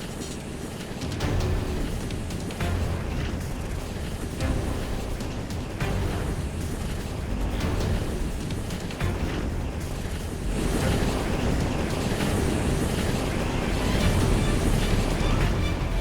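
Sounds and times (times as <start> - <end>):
faint music: 0.0 - 16.0.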